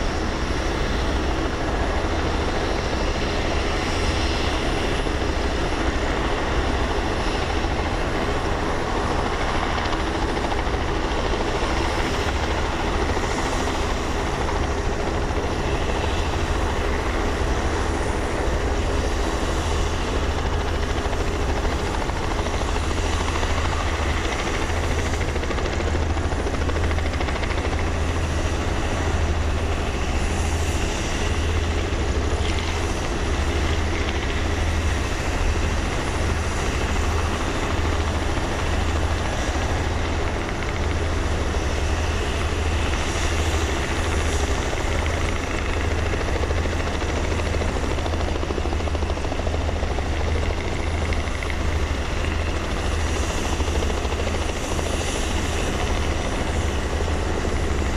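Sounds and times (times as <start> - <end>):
helicopter engine drone: 0.0 - 57.9
helicopter rotor thrum: 0.0 - 57.9.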